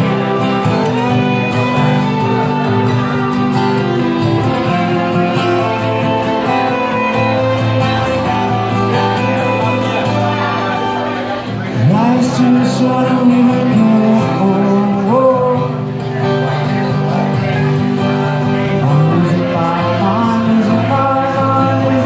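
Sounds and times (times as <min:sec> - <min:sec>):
band playing guitars and bass: 0:00.0 - 0:22.0
person singing: 0:00.0 - 0:22.0.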